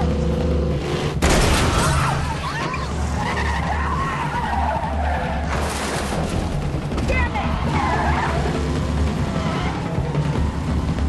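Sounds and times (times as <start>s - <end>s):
muscle car engines rumbling: 0.0s - 11.0s.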